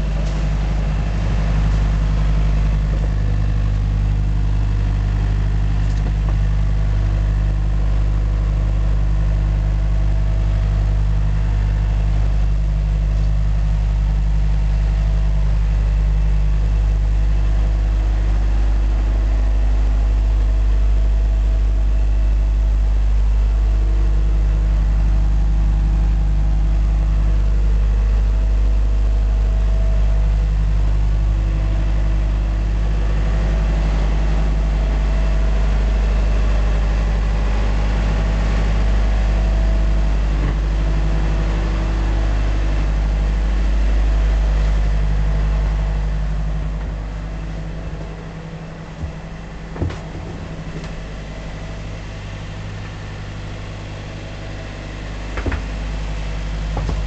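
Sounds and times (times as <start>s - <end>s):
deep low drone hum: 0.0s - 57.0s.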